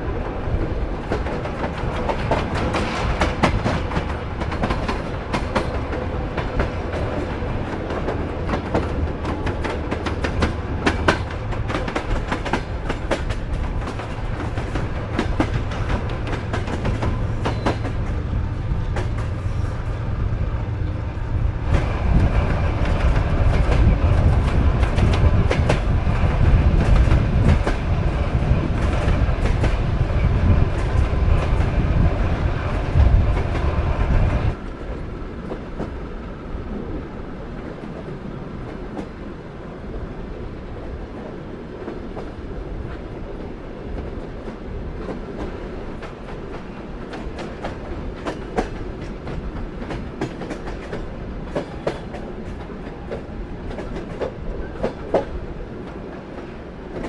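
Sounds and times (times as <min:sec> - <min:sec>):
train carriage rumble: 0:00.0 - 0:57.0.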